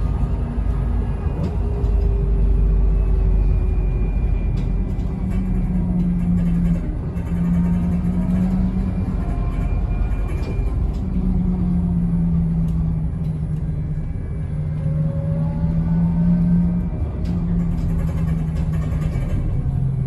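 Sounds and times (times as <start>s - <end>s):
bus interior rumble: 0.0s - 20.0s.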